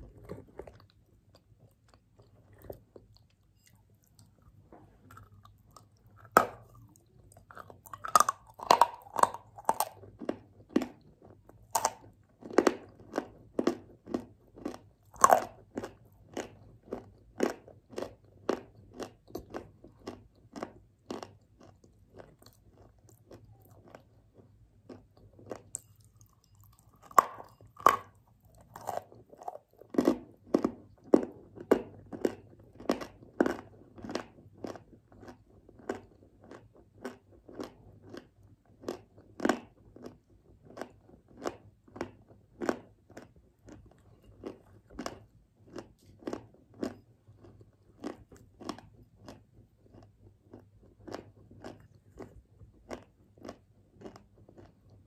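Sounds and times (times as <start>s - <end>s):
chewing chalk crunches: 0.0s - 55.0s.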